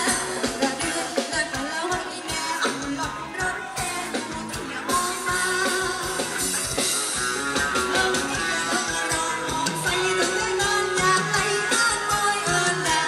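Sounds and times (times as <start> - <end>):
person singing: 0.0 - 6.8, 7.6 - 13.0
live band dance music: 0.0 - 13.0
steady drum beat: 0.0 - 13.0.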